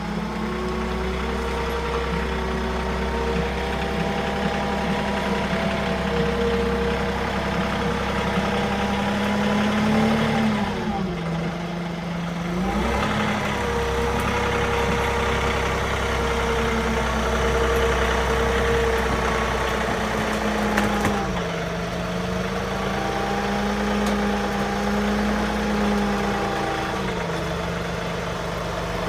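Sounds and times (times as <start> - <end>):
sawmill engine running: 0.0 - 29.0.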